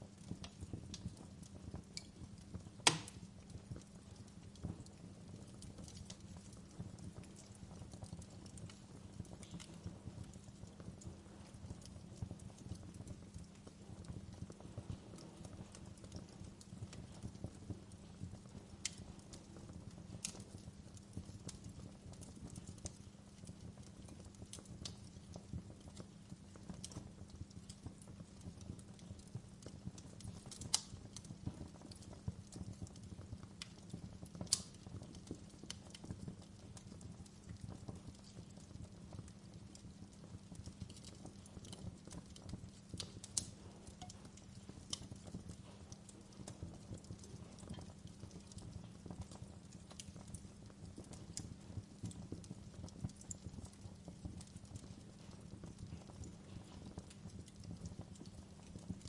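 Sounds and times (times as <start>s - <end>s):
fire crackling and popping: 0.0s - 59.0s
flames rumbling: 0.0s - 59.0s.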